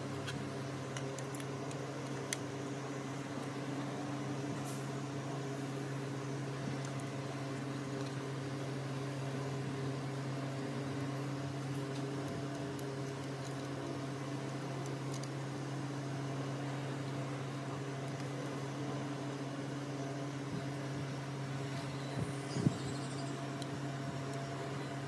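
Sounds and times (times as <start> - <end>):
electric machine hum: 0.0 - 25.0.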